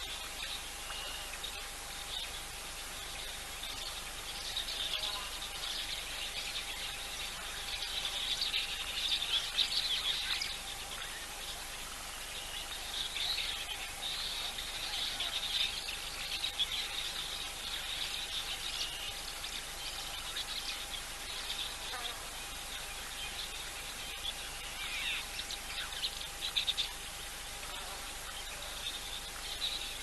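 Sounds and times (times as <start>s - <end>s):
faint steady hum: 0.0s - 30.0s
insects trilling: 0.0s - 30.0s
small birds chirping: 0.0s - 30.0s.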